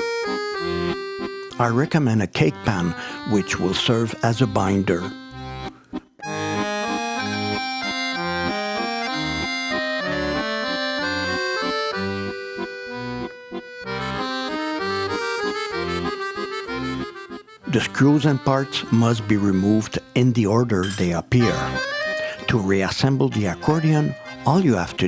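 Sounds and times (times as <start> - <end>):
accordion music: 0.0 - 25.0.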